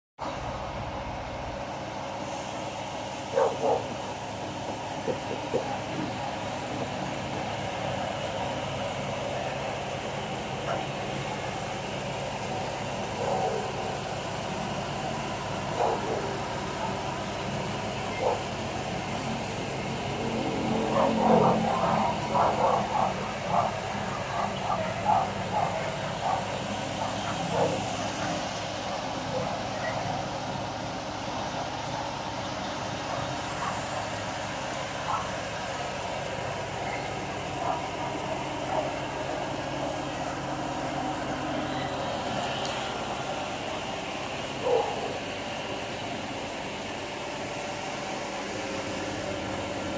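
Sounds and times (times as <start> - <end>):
steady town hum: 0.2 - 49.9.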